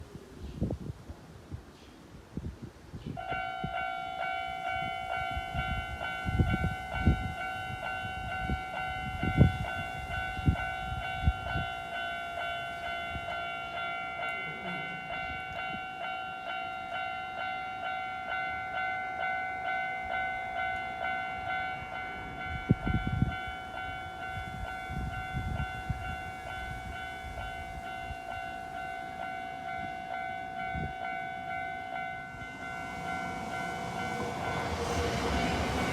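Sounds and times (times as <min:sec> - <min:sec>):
level crossing warning bell: 0:03.2 - 0:35.9.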